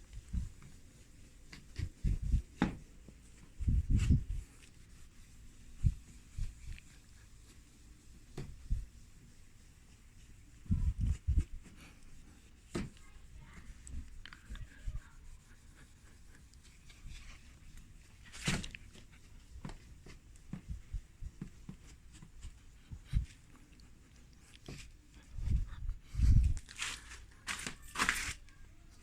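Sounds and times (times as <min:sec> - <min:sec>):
rubbing on plastic lens: 0:00.2 - 0:28.6.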